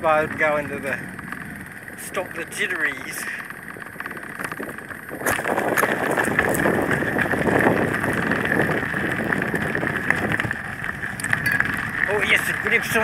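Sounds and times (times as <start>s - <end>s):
bicycle clicks and rattles: 0.0s - 13.0s
wind rushing over microphone: 0.0s - 13.0s.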